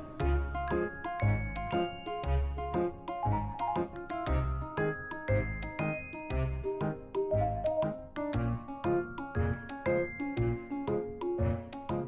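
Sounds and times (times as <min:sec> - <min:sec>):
light melodic background music: 0:00.0 - 0:12.0.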